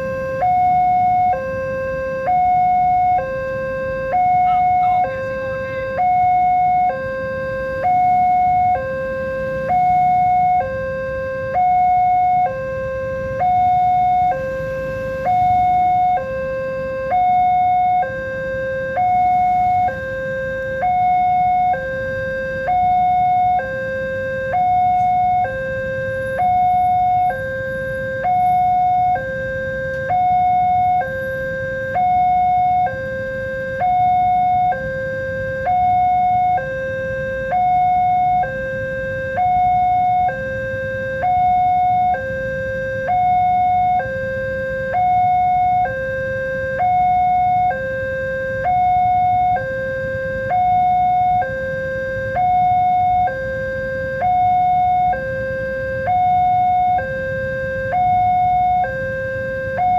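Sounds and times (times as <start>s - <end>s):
two-tone crossing alarm: 0.0s - 59.9s.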